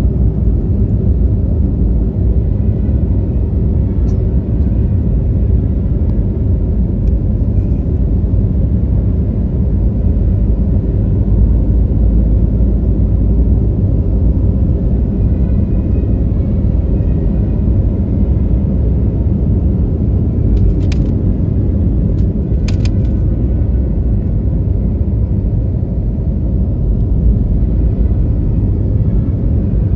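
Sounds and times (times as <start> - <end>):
jet cabin engine rumble: 0.0 - 29.9.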